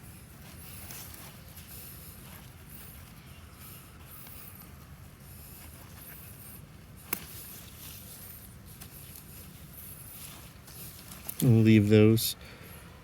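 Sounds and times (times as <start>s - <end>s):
hands digging through soil: 0.0s - 12.1s.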